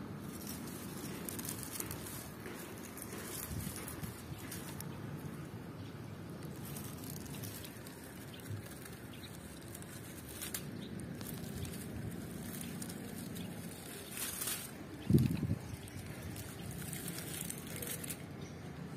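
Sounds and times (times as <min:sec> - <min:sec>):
light crackles: 0:00.0 - 0:18.9
vines and dry grass rustling: 0:00.0 - 0:18.9.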